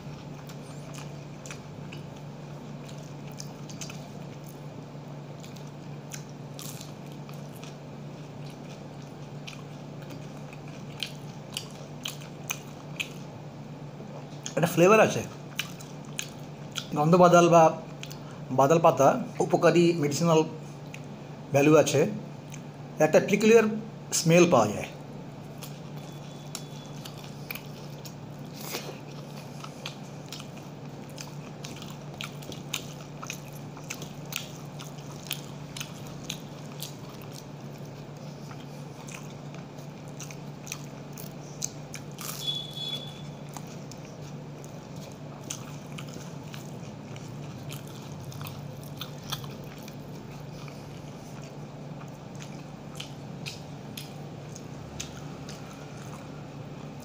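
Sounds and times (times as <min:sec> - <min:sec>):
person chewing crunchy food: 0:00.0 - 0:18.5, 0:25.0 - 0:57.0
steady low hum: 0:00.0 - 0:57.0.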